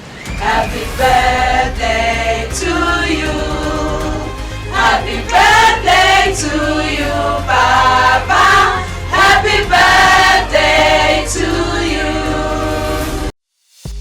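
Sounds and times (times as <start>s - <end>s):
many voices singing in chorus: 0.3s - 13.3s.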